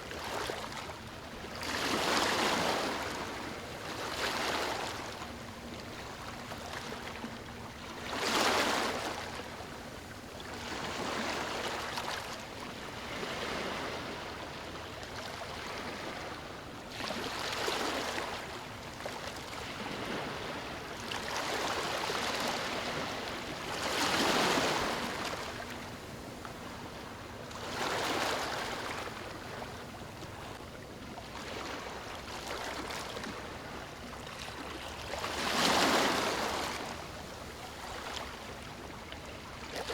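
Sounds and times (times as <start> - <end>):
waves breaking on shore: 1.6 - 7.2, 8.0 - 9.5, 12.9 - 18.6, 19.4 - 30.5, 31.3 - 39.9.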